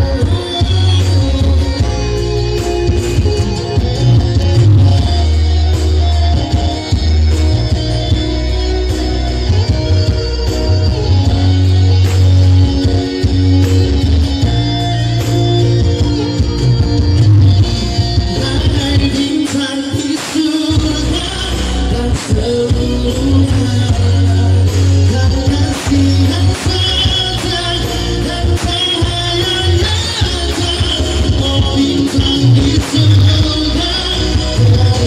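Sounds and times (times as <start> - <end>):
song with singing and guitar: 0.0 - 35.0.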